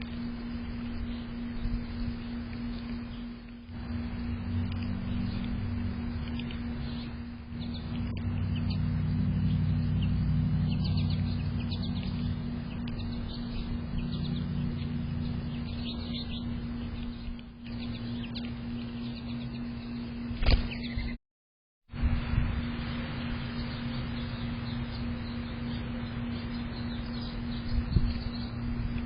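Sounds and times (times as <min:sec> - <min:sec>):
low hum and rumble: 0:00.0 - 0:21.2, 0:21.9 - 0:29.0
small birds chirping: 0:00.0 - 0:21.2, 0:22.7 - 0:29.0.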